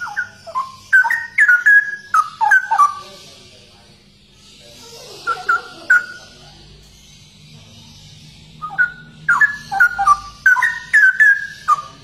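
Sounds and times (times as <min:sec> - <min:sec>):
bird whistled song: 0:00.0 - 0:12.0.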